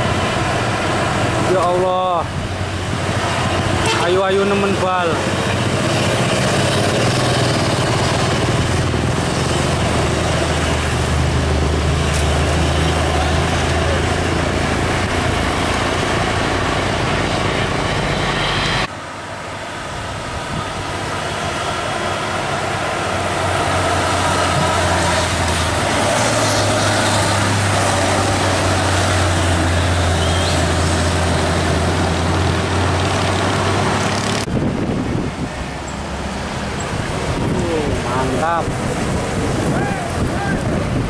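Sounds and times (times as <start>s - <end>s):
road traffic: 0.0s - 41.0s
truck diesel engine: 0.0s - 41.0s.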